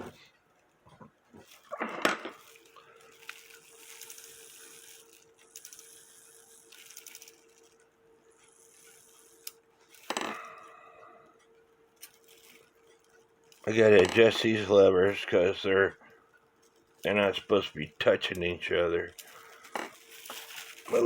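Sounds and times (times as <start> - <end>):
faint steady hum: 0.0 - 21.0
clock mechanism clicking: 2.4 - 10.5, 11.3 - 21.0.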